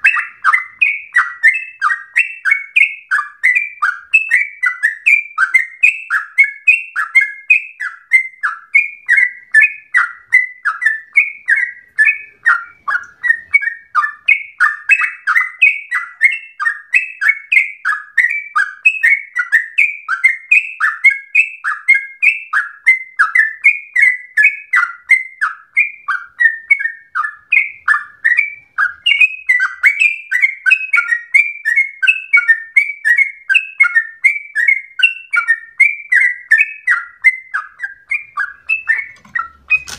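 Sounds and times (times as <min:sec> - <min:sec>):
bird singing bubbly notes: 0:00.0 - 0:39.9.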